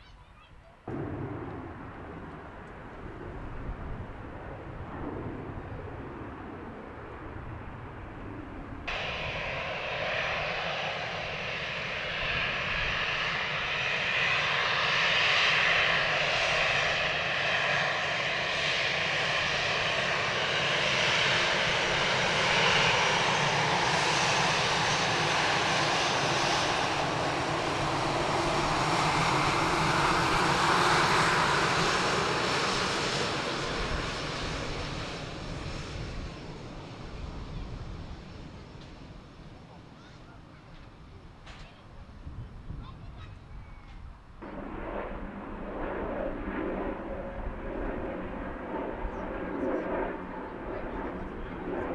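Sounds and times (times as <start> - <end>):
jet engines roaring: 0.8 - 43.0, 44.2 - 51.9.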